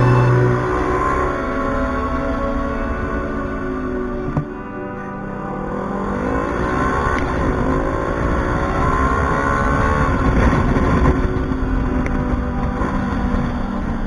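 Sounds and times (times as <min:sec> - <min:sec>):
vehicle engine accelerating: 0:00.0 - 0:03.5, 0:05.7 - 0:14.0.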